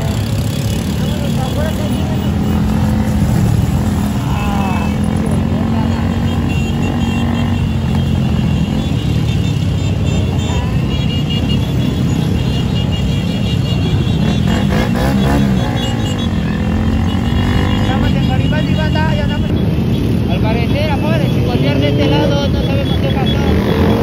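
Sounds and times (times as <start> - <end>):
motorcycle engines humming: 0.0 - 24.0.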